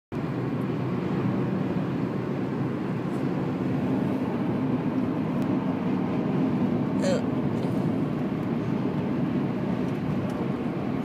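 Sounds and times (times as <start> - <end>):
car road and engine noise: 0.1 - 11.0.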